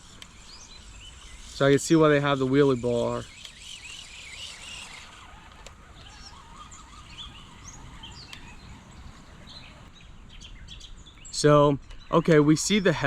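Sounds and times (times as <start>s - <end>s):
faint outdoor ambience: 0.0s - 13.0s
small birds chirping: 0.0s - 13.0s.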